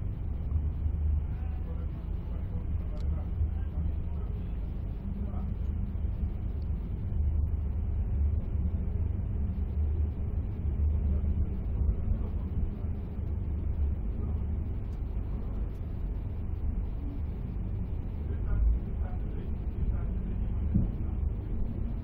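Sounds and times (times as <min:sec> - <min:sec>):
low rumble of train wheels: 0:00.0 - 0:22.0.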